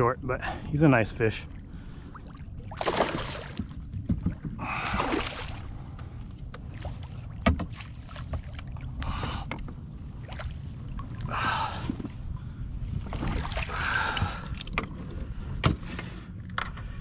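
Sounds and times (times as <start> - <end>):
low steady rumble: 0.0 - 17.0
water splashing around kayak: 1.4 - 15.9.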